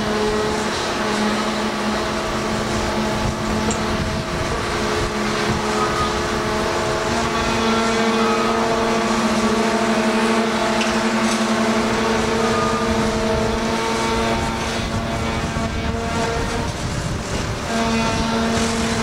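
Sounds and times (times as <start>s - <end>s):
crane engine droning: 0.0s - 19.0s.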